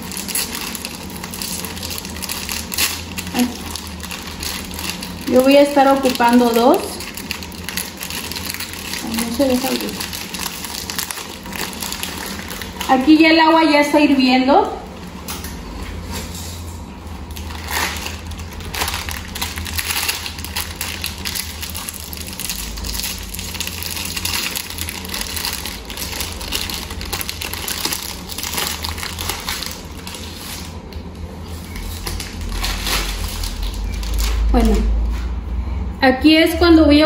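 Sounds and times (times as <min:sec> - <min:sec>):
plastic wrapper crinkling: 0:00.0 - 0:13.6, 0:17.3 - 0:35.0.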